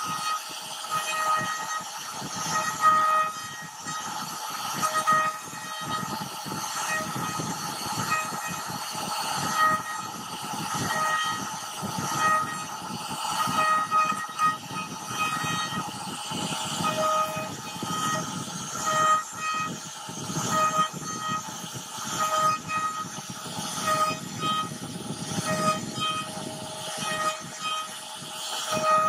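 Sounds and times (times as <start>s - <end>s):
crackly wood cutting noise: 0.0s - 29.0s
router spindle whine: 0.0s - 29.0s.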